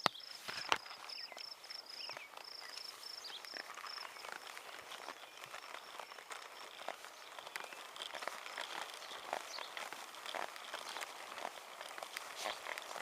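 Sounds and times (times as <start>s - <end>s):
bicycle clicks and rattles: 0.0s - 13.0s.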